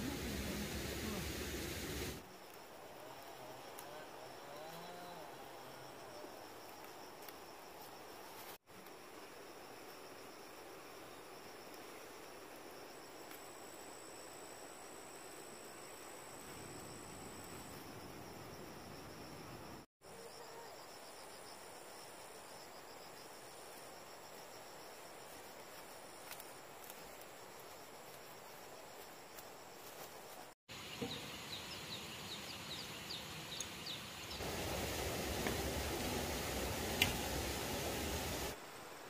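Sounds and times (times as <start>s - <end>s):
insects trilling: 1.0s - 39.0s.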